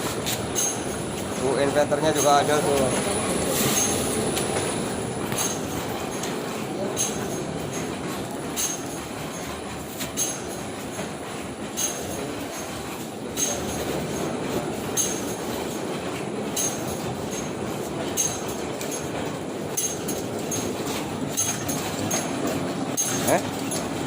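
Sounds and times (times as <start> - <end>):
printing press clatter and rumble: 0.0 - 24.0.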